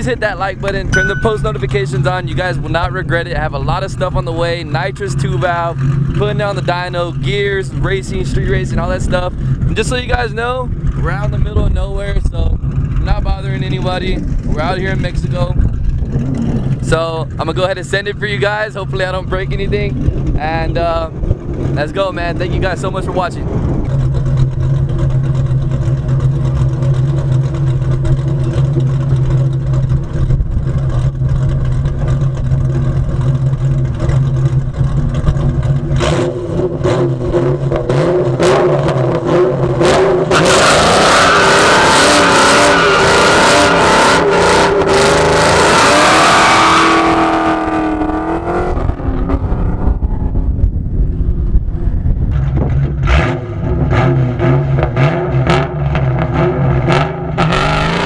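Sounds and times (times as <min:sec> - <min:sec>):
car engine idling and revving: 0:01.8 - 0:58.0.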